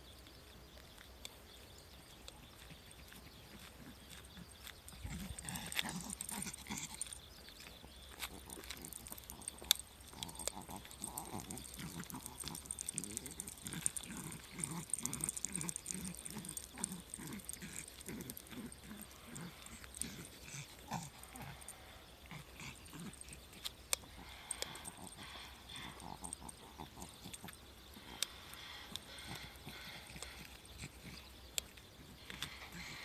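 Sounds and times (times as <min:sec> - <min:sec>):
small dog panting: 0:02.0 - 0:33.0.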